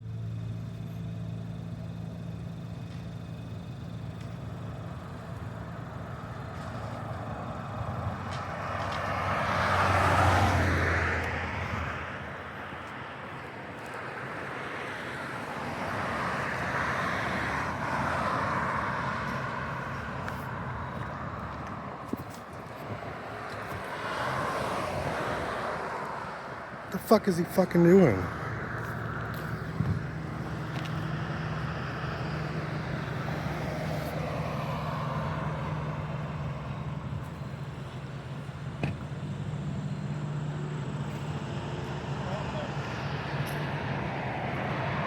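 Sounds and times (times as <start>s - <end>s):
low engine hum: 0.0s - 45.0s
car passing: 4.9s - 45.0s.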